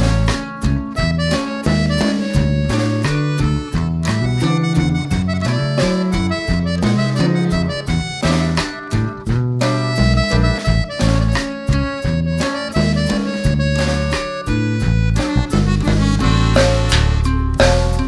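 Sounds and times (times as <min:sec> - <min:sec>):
instrumental music with beat: 0:00.0 - 0:18.0.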